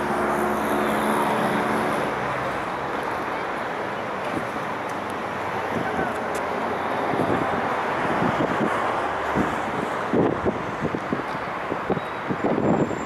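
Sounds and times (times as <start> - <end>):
passing vehicle engine hum: 0.0 - 13.0
street traffic noise: 0.0 - 13.0.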